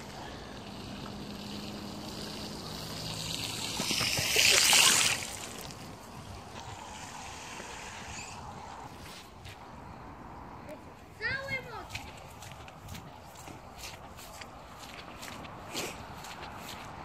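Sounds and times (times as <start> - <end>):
bicycle tyres splashing through puddle: 0.0 - 9.3, 11.4 - 17.0.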